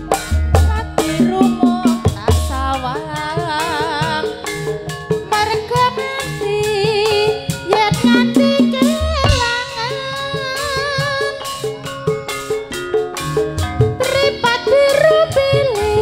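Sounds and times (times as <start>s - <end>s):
person singing wavering melody: 0.0s - 11.9s, 13.8s - 16.0s
drum strokes: 0.0s - 16.0s.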